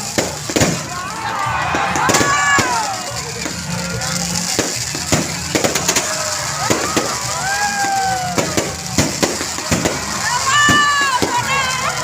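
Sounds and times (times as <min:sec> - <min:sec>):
crackling pops: 0:00.0 - 0:12.0
fireworks exploding: 0:00.0 - 0:12.0.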